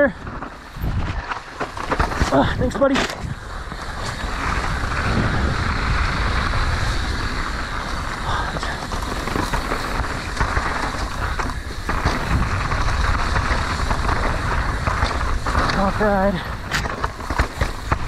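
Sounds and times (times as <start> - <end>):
bike clicks and rattles: 0.0 - 18.0
tyres rolling on dirt: 0.0 - 18.0
wind buffeting microphone: 0.0 - 18.0.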